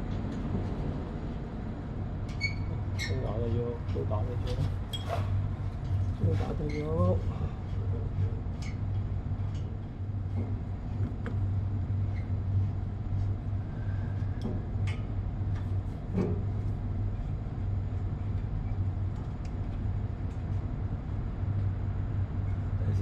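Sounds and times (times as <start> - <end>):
low machinery hum: 0.0 - 23.0.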